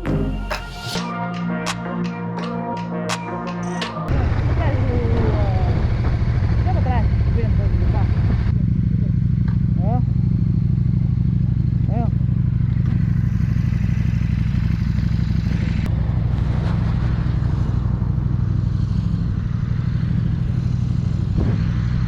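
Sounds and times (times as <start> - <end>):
motorcycle engine running: 4.1 - 22.0
wind and road noise: 4.3 - 22.0.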